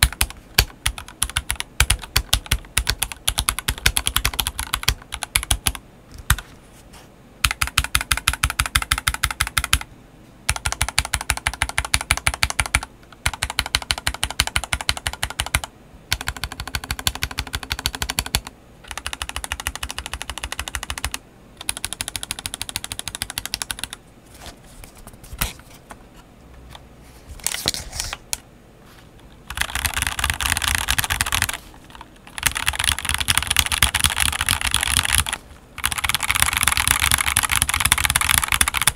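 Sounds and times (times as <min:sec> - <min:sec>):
mechanical keyboard typing: 0:00.0 - 0:06.4, 0:07.4 - 0:09.9, 0:10.5 - 0:24.0, 0:29.4 - 0:38.9.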